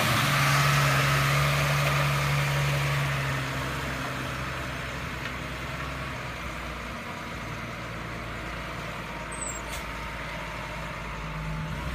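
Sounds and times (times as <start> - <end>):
truck diesel engine running: 0.0 - 11.9.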